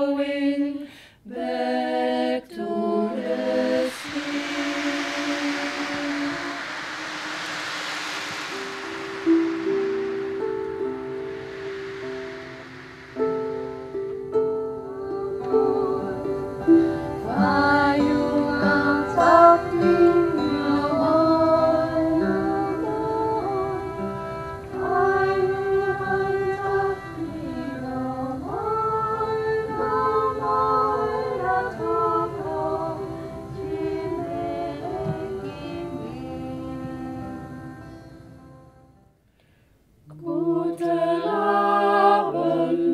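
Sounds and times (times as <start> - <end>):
violin slow melody: 2.8 - 38.1.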